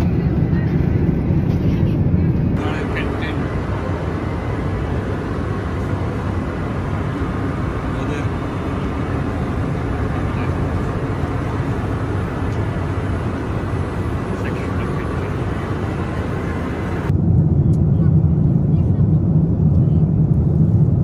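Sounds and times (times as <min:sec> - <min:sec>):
aircraft cabin noise: 0:00.0 - 0:21.0.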